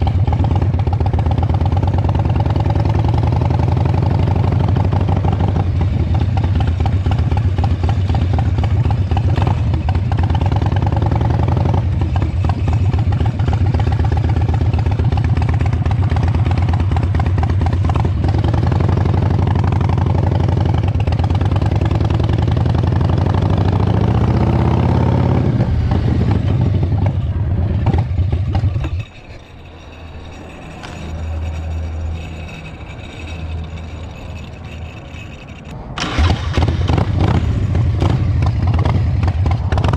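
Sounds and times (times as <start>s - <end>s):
motorcycle engine revving: 0.0s - 29.2s, 36.0s - 39.9s.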